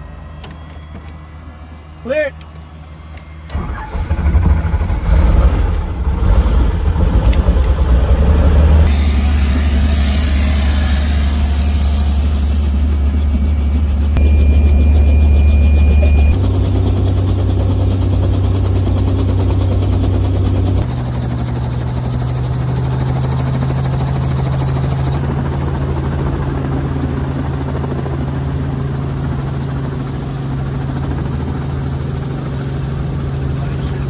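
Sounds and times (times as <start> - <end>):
helicopter droning in cabin: 0.0 - 34.0.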